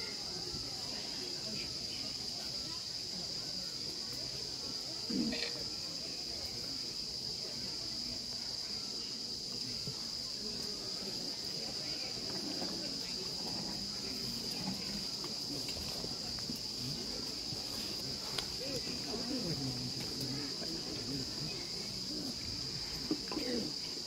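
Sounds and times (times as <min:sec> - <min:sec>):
faint murmured voices: 0:00.0 - 0:24.0
insects droning in chorus: 0:00.0 - 0:24.0.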